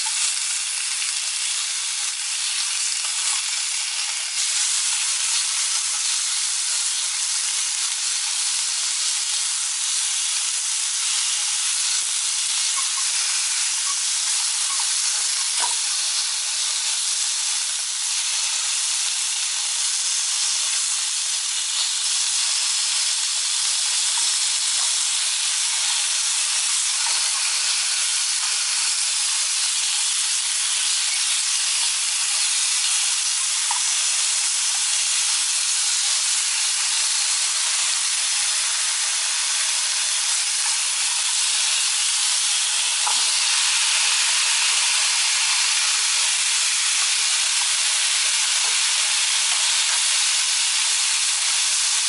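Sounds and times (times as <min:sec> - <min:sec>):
meat sizzling in a frying pan: 0:00.0 - 0:52.0.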